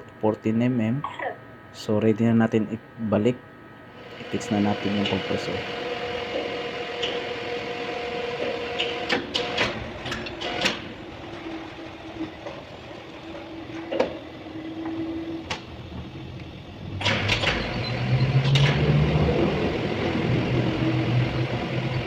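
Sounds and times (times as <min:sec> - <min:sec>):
low steady machine hum: 0:00.0 - 0:09.0, 0:09.6 - 0:22.0.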